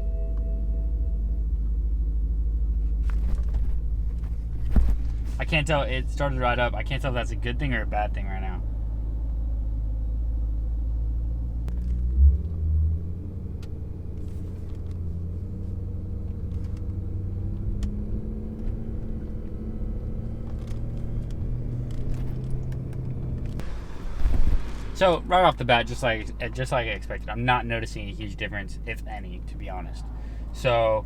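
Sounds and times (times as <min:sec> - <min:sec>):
car engine running at low revs: 0:00.0 - 0:31.0.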